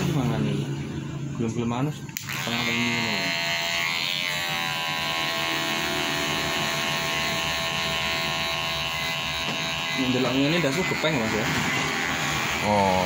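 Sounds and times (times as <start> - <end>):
electric hair clipper buzzing: 2.2 - 13.0.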